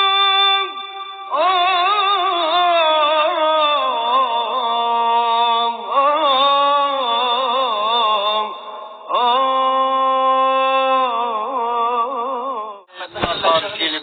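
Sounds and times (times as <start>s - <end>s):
person singing slow melody: 0.0s - 13.0s.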